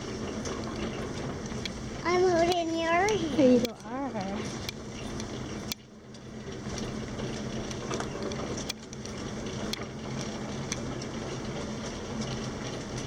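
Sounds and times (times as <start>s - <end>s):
crib-bed rolling rumble: 0.0s - 13.0s
light clicks and rattles: 0.0s - 13.0s.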